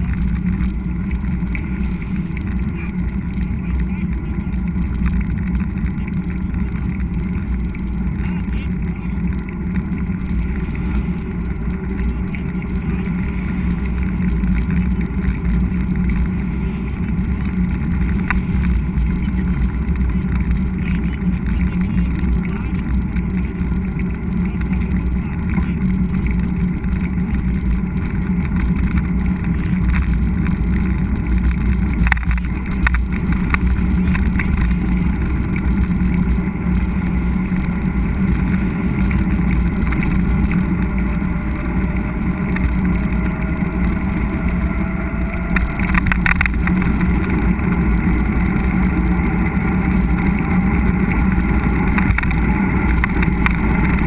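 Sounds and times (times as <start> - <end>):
bike tyre noise on trail: 0.0 - 54.0
wind rumble: 0.0 - 54.0.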